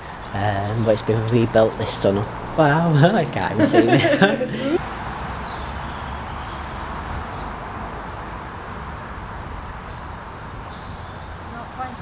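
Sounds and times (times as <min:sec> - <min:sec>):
small birds chirping: 0:00.0 - 0:03.2, 0:04.6 - 0:12.0
road traffic rumble: 0:00.0 - 0:12.0.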